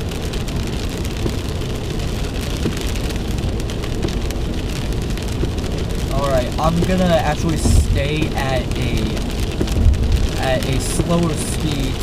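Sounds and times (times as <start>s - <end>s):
car driving on wet road: 0.0s - 12.0s
heavy rain on car: 0.0s - 12.0s.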